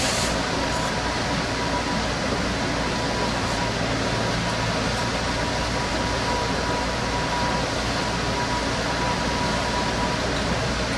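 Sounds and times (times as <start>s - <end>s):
streetcar rumble and hiss: 0.0s - 10.9s.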